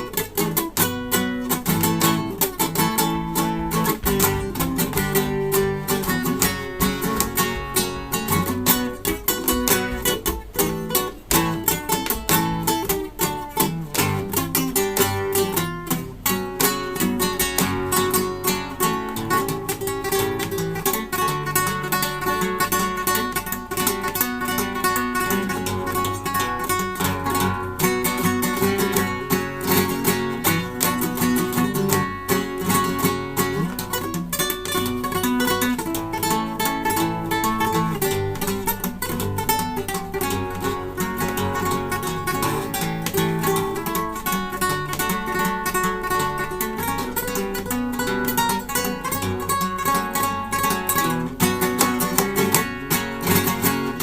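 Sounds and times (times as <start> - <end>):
classical guitar playing: 0.0 - 54.0.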